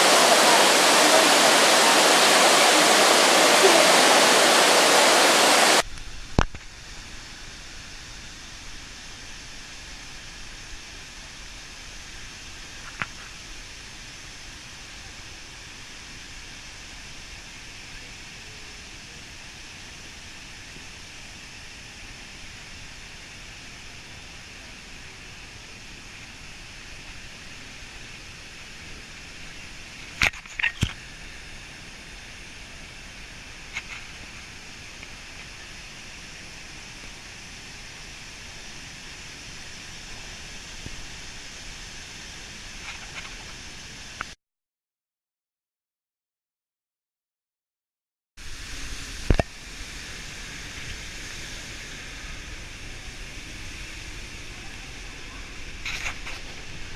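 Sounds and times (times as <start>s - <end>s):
steady noise: 0.0s - 44.4s, 48.4s - 56.9s.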